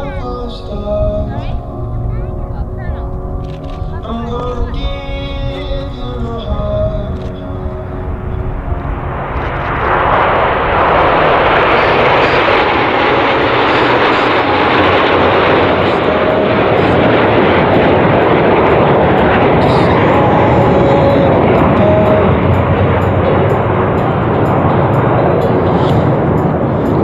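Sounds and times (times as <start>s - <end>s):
jets flying past: 2.0s - 27.0s.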